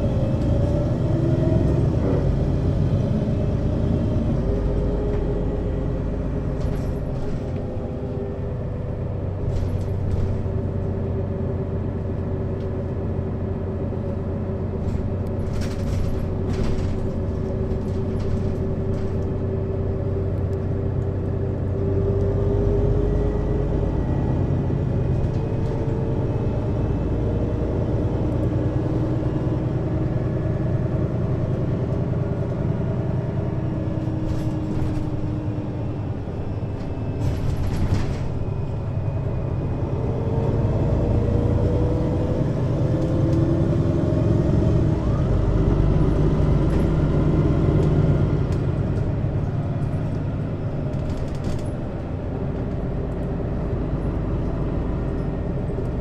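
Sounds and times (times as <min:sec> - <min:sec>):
bus engine: 0:00.0 - 0:56.0.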